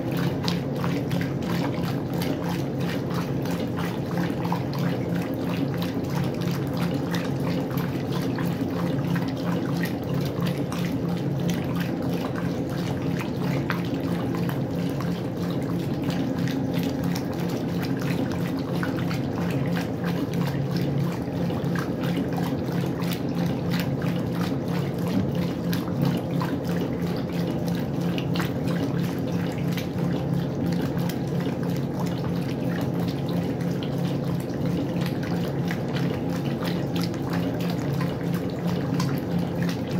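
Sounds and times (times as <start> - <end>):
washing machine hum: 0.0 - 39.9
washing machine water splashing: 0.0 - 39.9.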